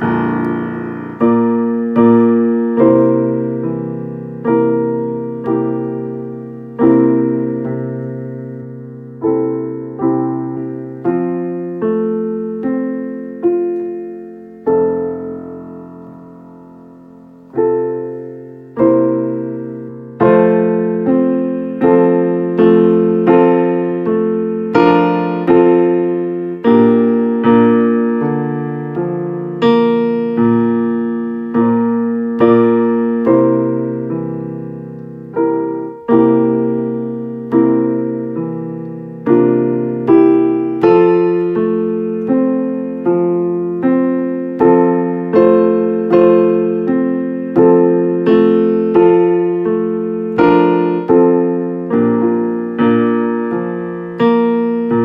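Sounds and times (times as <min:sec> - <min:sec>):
piano playing slow chords: 0:00.0 - 0:55.0.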